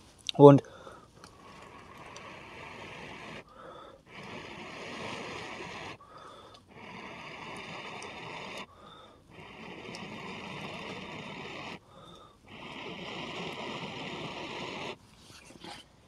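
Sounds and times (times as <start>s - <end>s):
person blowing on ember: 0.7s - 15.9s.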